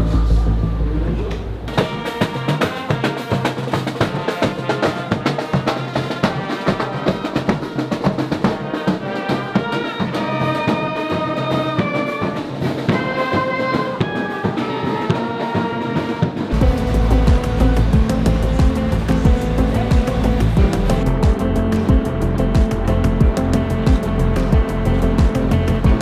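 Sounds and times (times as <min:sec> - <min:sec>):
brass and saxophone melody: 0:01.6 - 0:26.0
snare and bass drums: 0:01.6 - 0:26.0.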